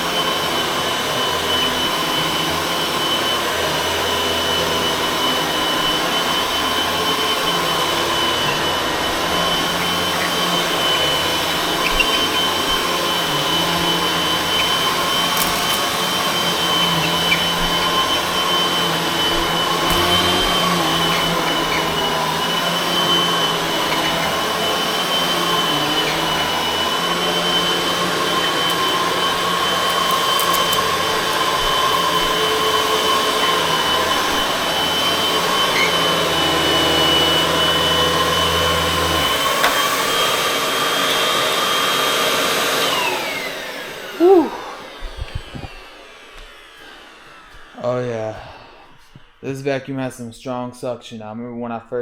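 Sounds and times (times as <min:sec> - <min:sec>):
vacuum cleaner running on rug: 0:00.0 - 0:49.4.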